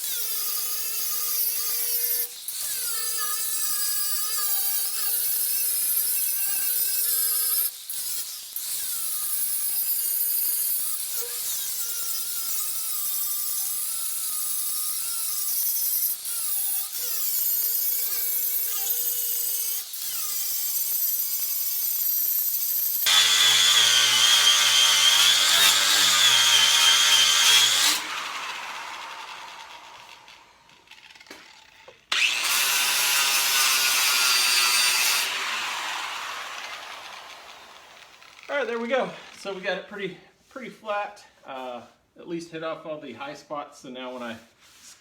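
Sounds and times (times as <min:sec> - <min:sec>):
grinder whining on metal: 0:00.0 - 0:39.7.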